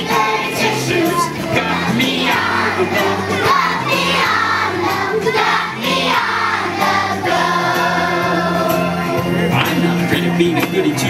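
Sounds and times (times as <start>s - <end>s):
children's choir singing: 0.0s - 9.2s
instrumental accompaniment with bass: 0.0s - 11.0s.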